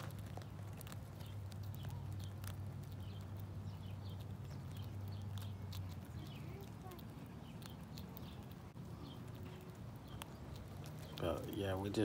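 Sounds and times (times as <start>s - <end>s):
squirrel gnawing crunching clicks: 0.0s - 12.0s.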